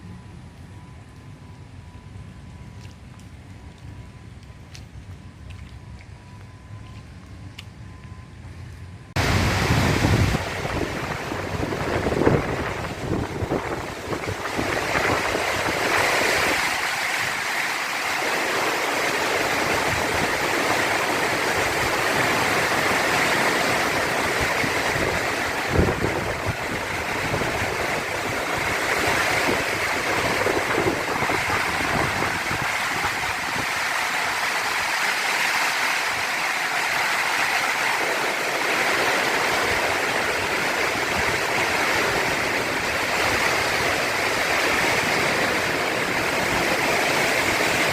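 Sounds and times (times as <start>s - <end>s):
heavy rain pouring: 9.1s - 47.9s.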